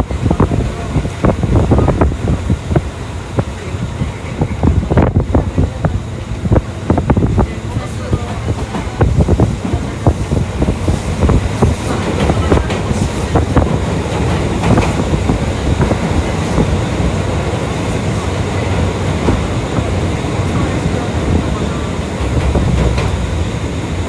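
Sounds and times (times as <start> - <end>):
train wheels rumbling: 0.0 - 24.0
wheels clacking over rail joints: 0.0 - 24.0.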